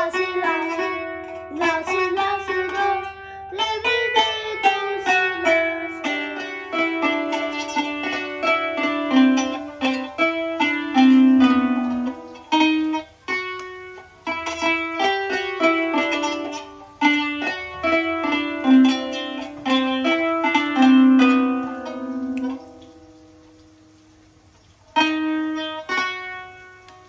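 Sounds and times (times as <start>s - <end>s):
plucked zither melody: 0.0s - 24.0s, 24.9s - 27.0s.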